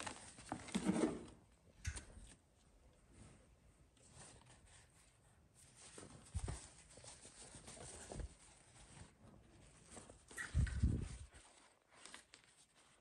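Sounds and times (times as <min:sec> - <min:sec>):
soft cloth and paper rustling: 0:00.0 - 0:01.2, 0:02.0 - 0:13.0.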